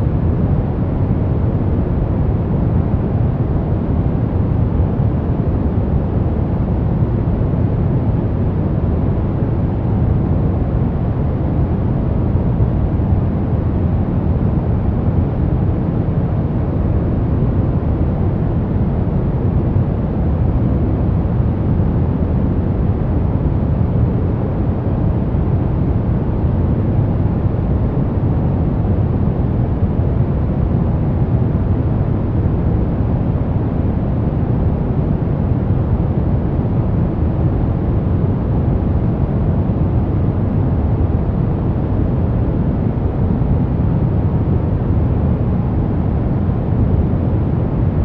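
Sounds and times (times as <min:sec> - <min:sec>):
white noise: 0:00.0 - 0:48.0.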